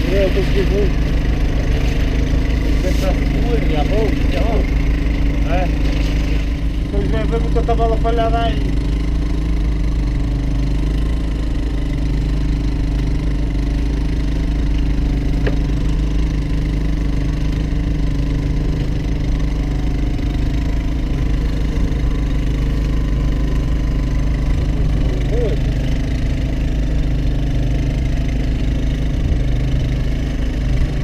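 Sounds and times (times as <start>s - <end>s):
boat engine idling: 0.0s - 31.0s.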